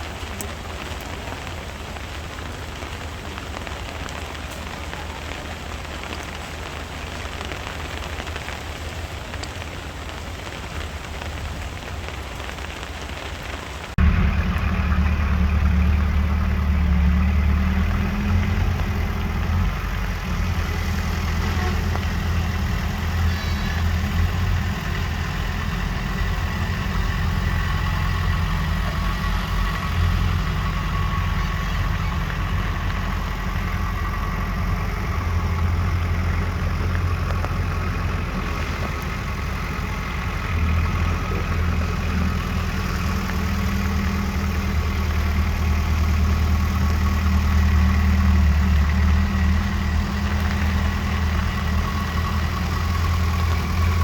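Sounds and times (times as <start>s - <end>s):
diesel engine running: 0.0s - 54.0s
low engine rumble: 0.0s - 54.0s.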